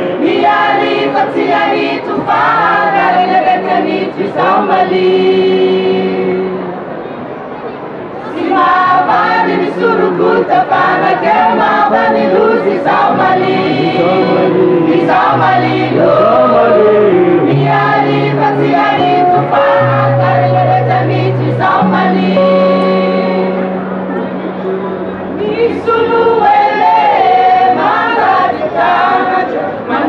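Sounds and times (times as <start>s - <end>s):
women singing higher melody: 0.0s - 6.6s, 8.3s - 30.0s.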